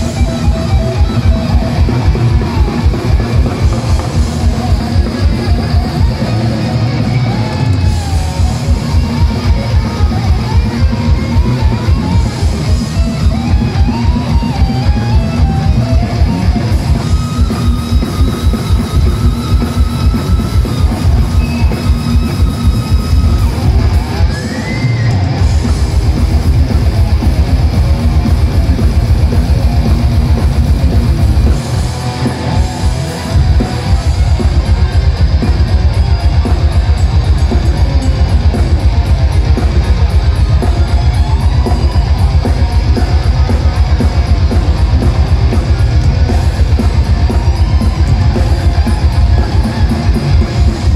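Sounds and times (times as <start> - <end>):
bass guitar: 0.0 - 50.9
distorted electric guitars: 0.0 - 50.9
fast driving drums: 0.0 - 50.9.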